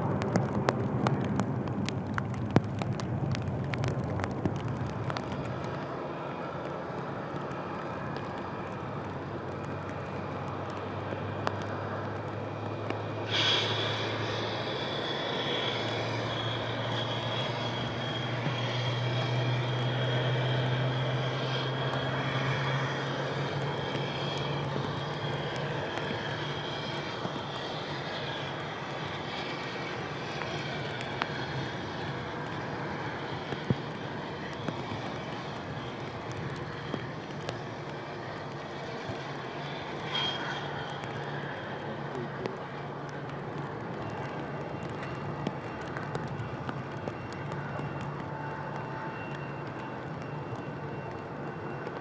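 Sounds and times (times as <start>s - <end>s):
high engine whine: 0.0s - 52.0s
jet engines humming: 0.0s - 52.0s
rain tapping on camera: 0.0s - 52.0s.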